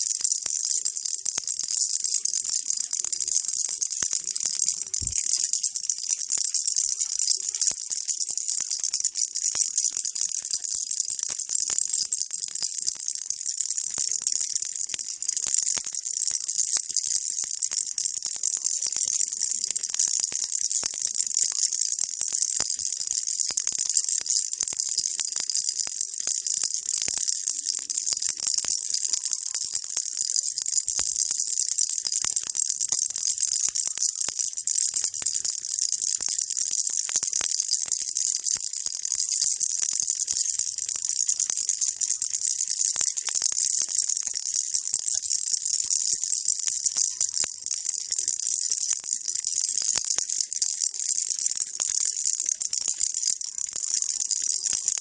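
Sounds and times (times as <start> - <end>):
baby rattle shaking: 0.0 - 55.0.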